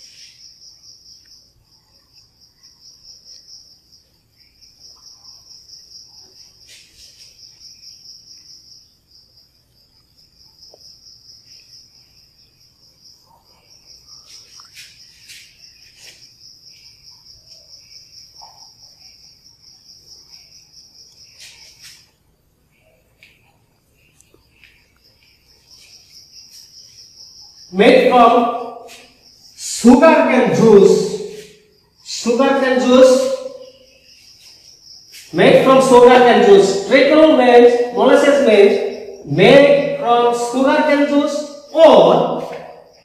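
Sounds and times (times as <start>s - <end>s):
high insect trill: 0.0s - 43.0s.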